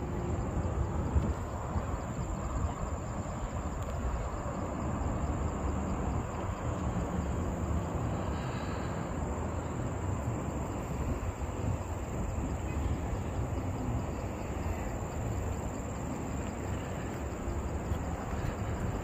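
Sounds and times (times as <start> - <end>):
distant city traffic: 0.0 - 19.0
high insect whine: 0.0 - 19.0.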